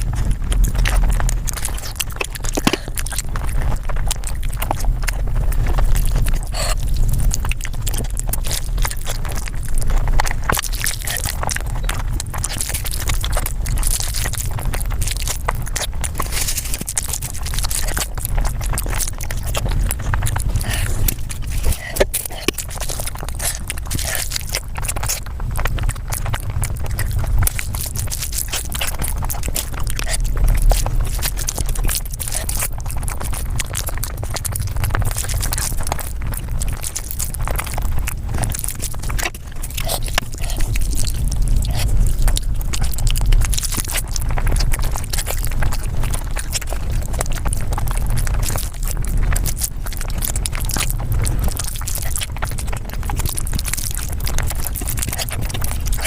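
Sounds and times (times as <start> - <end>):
low rumble: 0.0 - 56.0
sped-up chewing and smacking: 0.0 - 56.0.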